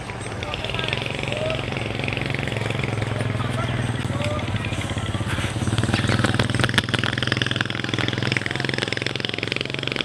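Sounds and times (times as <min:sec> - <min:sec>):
small engine chugging: 0:00.2 - 0:10.0.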